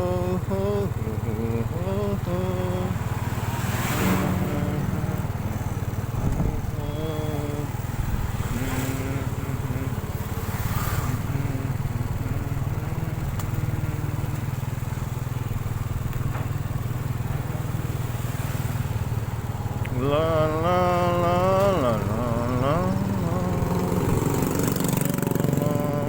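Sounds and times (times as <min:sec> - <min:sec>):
faint humming or voice: 0:00.0 - 0:03.0, 0:04.0 - 0:10.2, 0:10.8 - 0:18.8, 0:19.8 - 0:26.0
motorcycle engine rumbling: 0:00.0 - 0:26.0.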